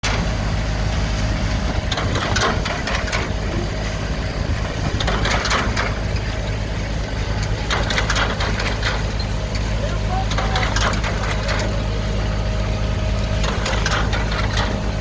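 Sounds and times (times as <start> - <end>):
engine droning: 0.0 - 15.0
machine clattering: 1.7 - 12.2, 13.3 - 15.0.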